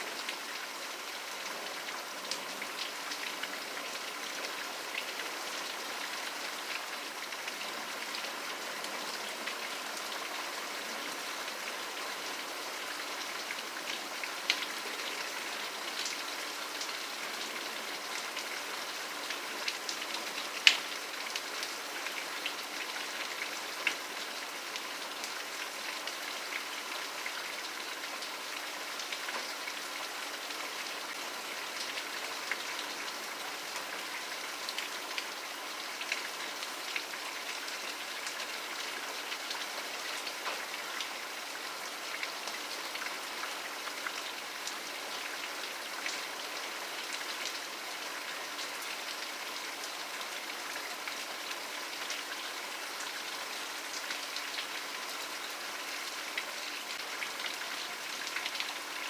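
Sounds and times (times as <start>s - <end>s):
rain pattering on hard surface: 0.0s - 59.0s.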